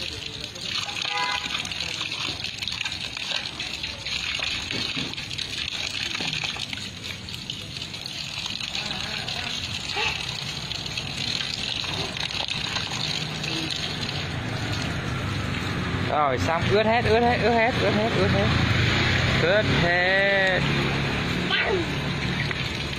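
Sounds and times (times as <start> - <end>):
hose water spraying on concrete: 0.0 - 22.9.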